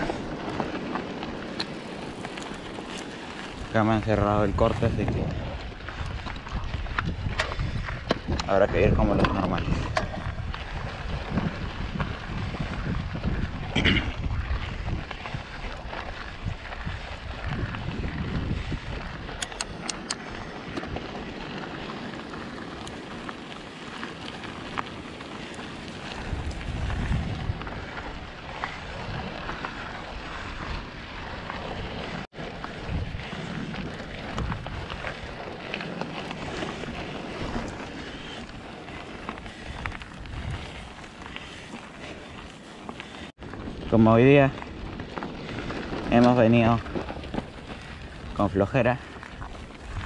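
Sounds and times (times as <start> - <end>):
bike rolling and rattling on gravel: 0.0 - 50.0
wind buffeting microphone: 0.0 - 50.0.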